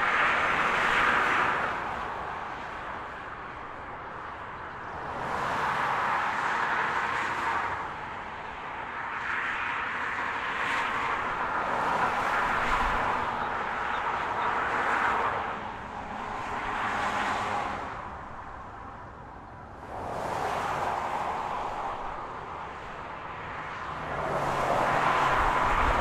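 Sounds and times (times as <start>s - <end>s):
cars passing on highway: 0.0s - 26.0s.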